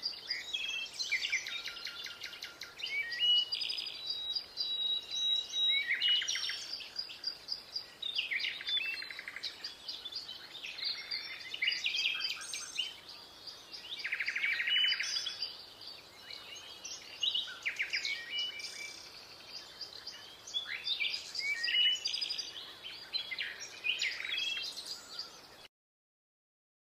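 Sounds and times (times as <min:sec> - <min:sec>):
birds chirping and trilling: 0:00.0 - 0:25.7.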